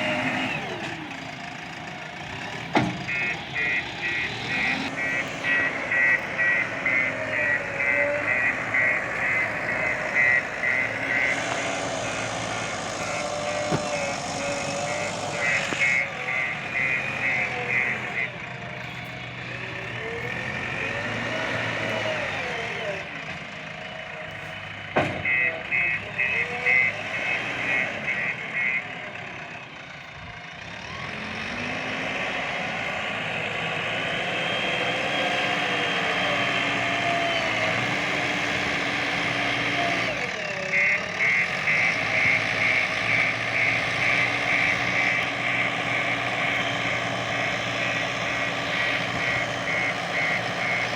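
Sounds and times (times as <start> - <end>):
diesel engine running: 0.0 - 50.9
reversing alarm beeping: 2.5 - 23.1, 23.8 - 29.8, 30.8 - 50.9.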